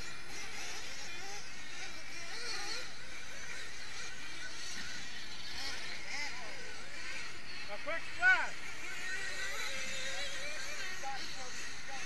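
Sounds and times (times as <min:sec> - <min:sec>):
model buggy engines whining: 0:00.0 - 0:12.0.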